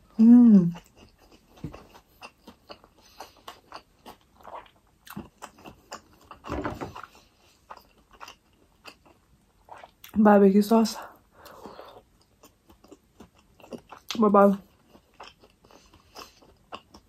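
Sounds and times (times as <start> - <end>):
chewing and mouth smacking: 0.7 - 10.2, 11.4 - 17.0.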